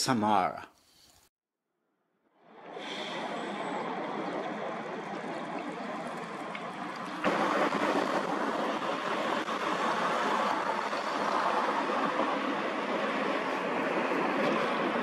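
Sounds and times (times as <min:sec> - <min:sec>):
bus road and wind noise: 0:02.7 - 0:15.0.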